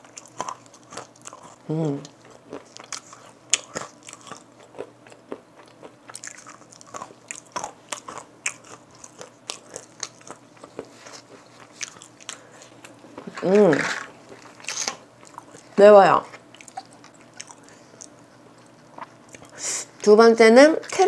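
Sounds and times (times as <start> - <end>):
crunching and chewing peanut: 0.0 - 19.6.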